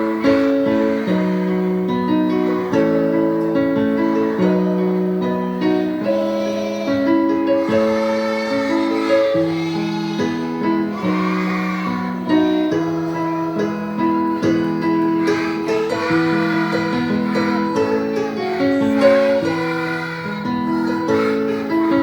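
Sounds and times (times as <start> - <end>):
acoustic guitar: 0.0 - 22.0
children's choir singing: 0.0 - 22.0.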